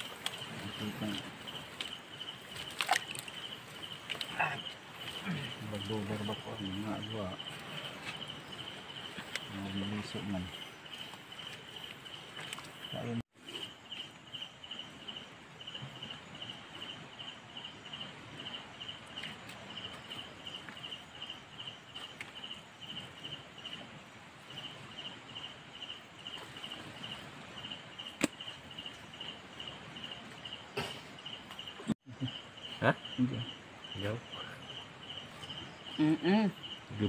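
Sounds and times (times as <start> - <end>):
insect chirping: 0.0 - 37.0.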